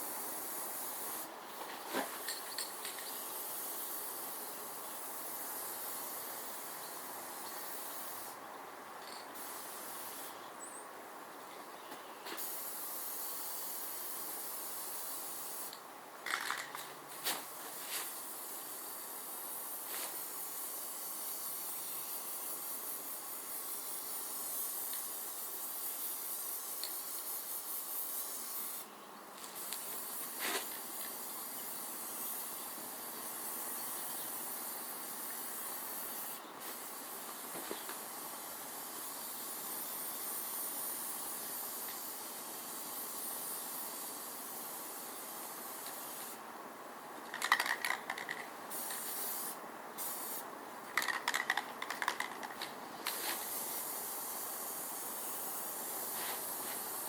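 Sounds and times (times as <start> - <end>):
paint spray hissing: 0.0 - 8.4, 9.0 - 10.4, 11.8 - 46.4, 47.3 - 57.0.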